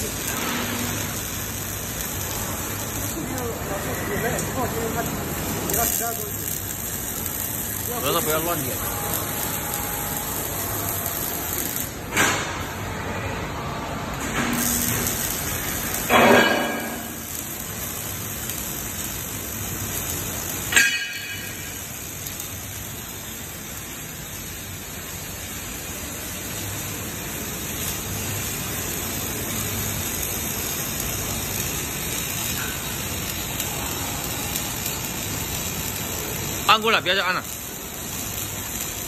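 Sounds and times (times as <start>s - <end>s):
welding arc hissing: 0.0s - 39.0s.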